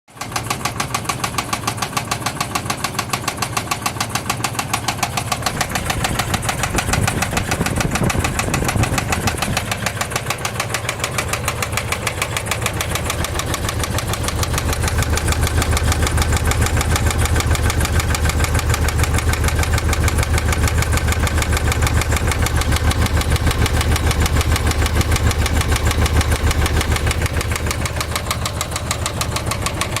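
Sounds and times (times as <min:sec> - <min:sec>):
fast engine ticking: 0:00.1 - 0:30.0
engine running: 0:00.2 - 0:30.0.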